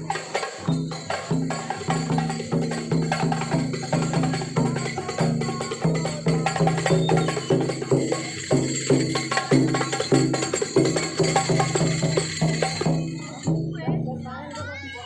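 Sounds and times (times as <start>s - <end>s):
tambourine jingles: 0.0s - 14.8s
percussion music: 0.0s - 15.0s.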